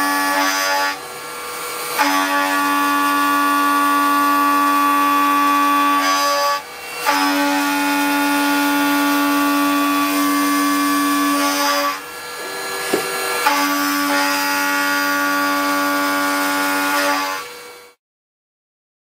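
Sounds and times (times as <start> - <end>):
milling cutter high-pitched whine: 0.0 - 17.9.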